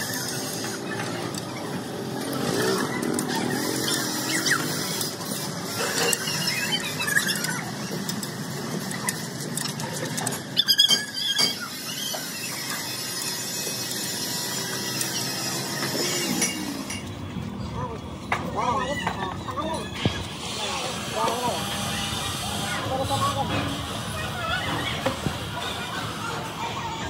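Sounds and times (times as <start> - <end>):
continuous machine squeal: 0.0 - 27.0.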